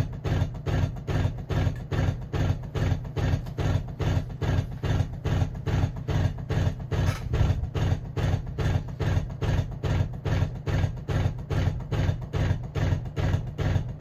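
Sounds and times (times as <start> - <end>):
rhythmic thudding of fan: 0.0 - 14.0.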